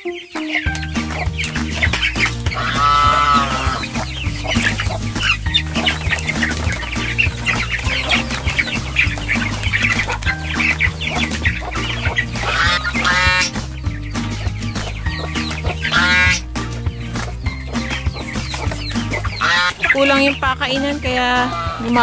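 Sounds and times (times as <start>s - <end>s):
drawn-out chicken call: 0.0s - 20.4s, 21.3s - 22.0s
background music: 0.0s - 22.0s
chicks peeping and clucking: 0.0s - 22.0s.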